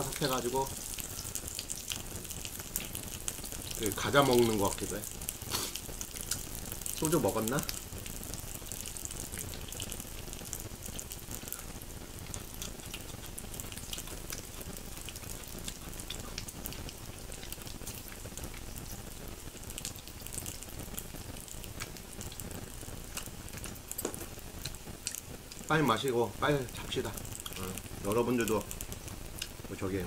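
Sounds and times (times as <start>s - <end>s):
fat popping and crackling: 0.0s - 30.0s
pork sizzling on grill pan: 0.0s - 30.0s.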